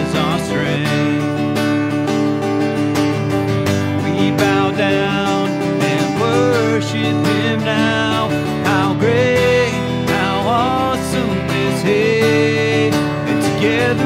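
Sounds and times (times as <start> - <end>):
man singing: 0.0 - 1.9, 3.8 - 14.0
acoustic guitar strummed: 0.0 - 14.0.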